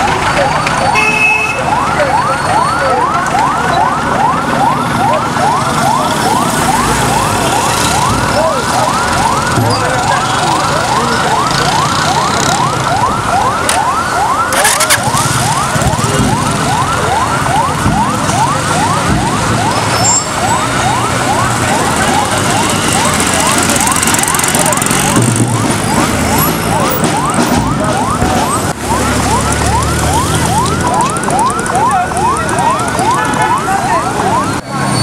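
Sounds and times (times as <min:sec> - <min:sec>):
electronic siren yelping: 0:00.0 - 0:35.0.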